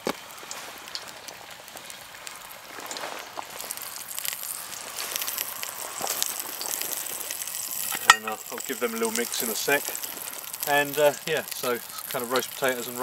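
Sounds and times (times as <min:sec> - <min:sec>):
potatoes sizzling in hot oil: 0:00.0 - 0:13.0.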